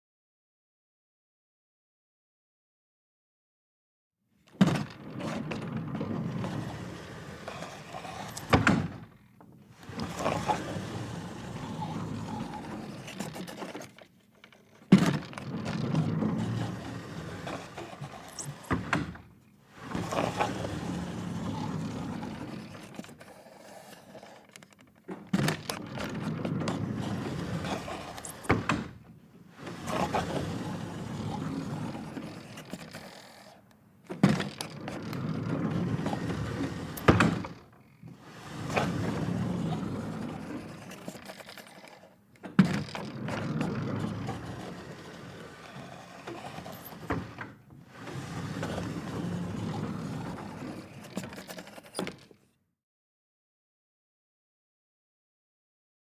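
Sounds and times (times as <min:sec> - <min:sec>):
wooden door sliding: 0:04.6 - 0:52.4.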